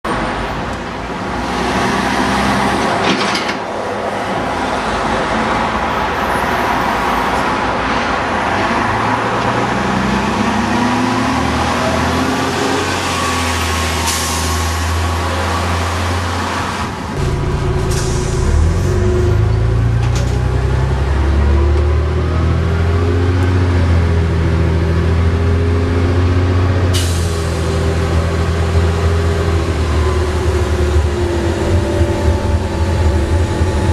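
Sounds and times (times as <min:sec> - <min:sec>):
bus engine accelerating: 0:00.1 - 0:33.9.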